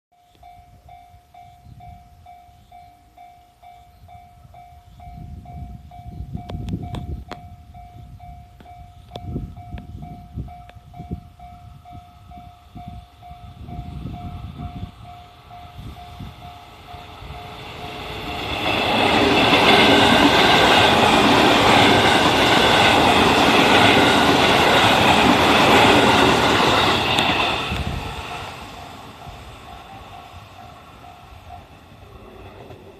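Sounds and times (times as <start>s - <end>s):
electric train passing: 0.3s - 32.9s.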